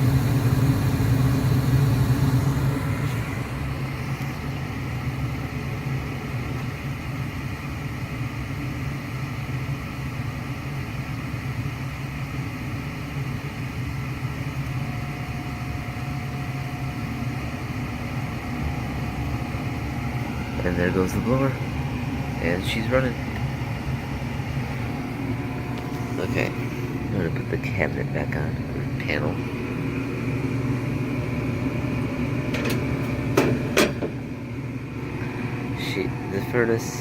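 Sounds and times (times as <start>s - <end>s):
furnace fan humming: 0.0s - 37.0s.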